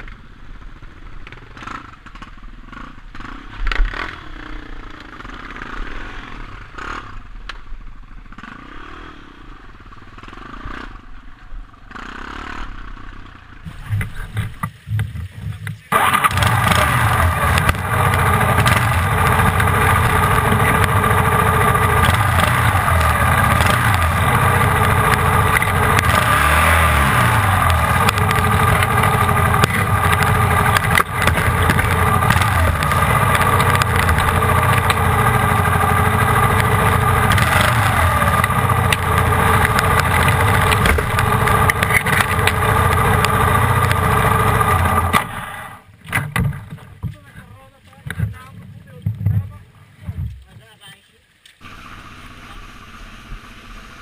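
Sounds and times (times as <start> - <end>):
motorcycle engine running: 0.1 - 45.9, 51.6 - 54.0.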